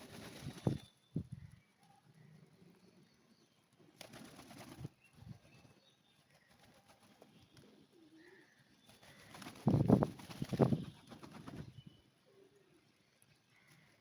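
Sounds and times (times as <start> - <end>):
faint pigeons cooing: 0.0 - 14.0.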